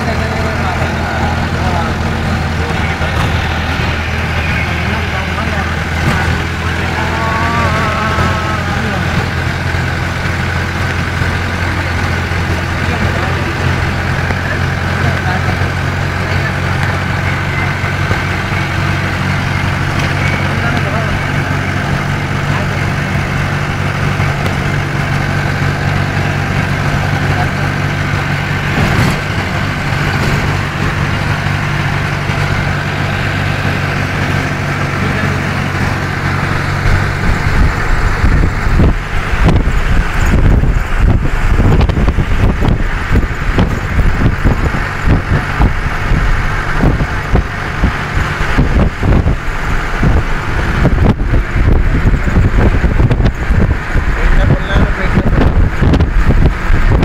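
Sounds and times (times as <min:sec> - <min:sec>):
bus engine and road noise: 0:00.0 - 0:57.0.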